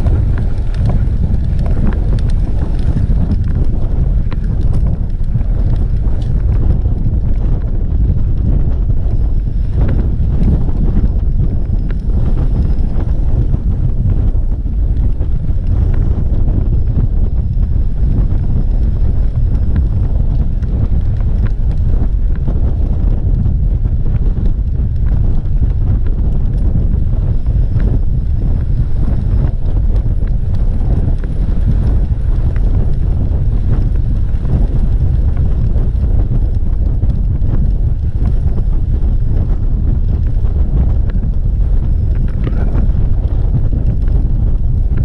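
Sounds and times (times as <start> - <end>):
wind on microphone: 0.0 - 45.0.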